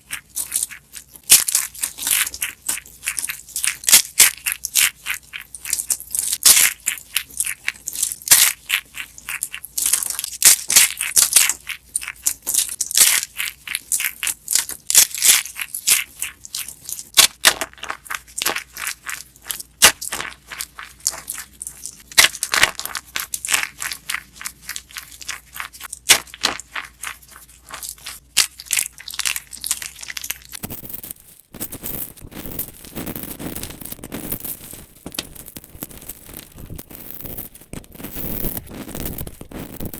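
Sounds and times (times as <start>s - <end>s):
dried soap crunching: 0.1s - 39.9s.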